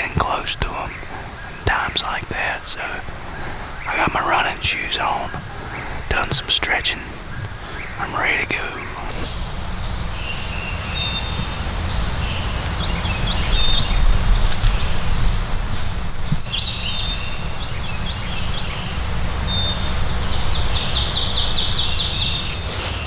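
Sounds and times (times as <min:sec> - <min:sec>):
songbirds calling and singing: 0:00.0 - 0:23.0
steady low rumble: 0:00.0 - 0:23.0.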